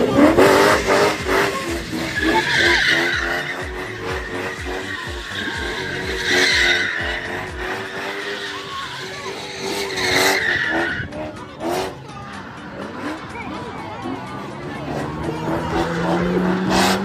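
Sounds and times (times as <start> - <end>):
tyres squealing and skidding: 0.0 - 17.0.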